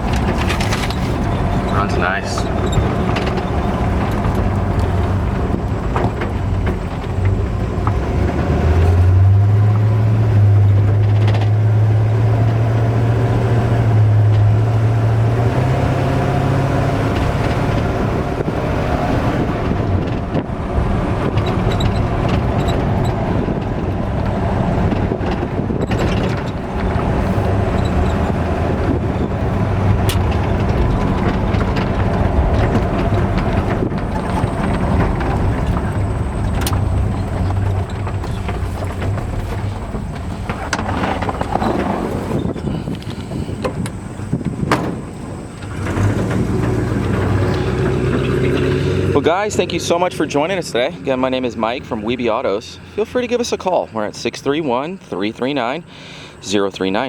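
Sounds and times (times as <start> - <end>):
truck engine driving: 0.0 - 57.0.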